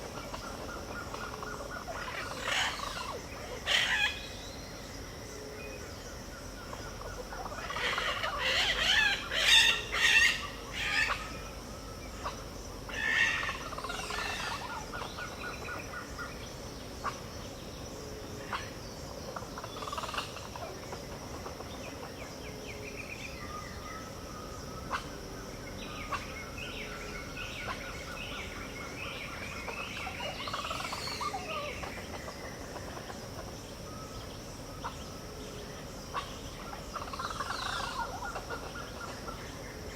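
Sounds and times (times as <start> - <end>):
birds calling: 0.0 - 4.9, 6.4 - 39.9
high insect drone: 0.0 - 39.9.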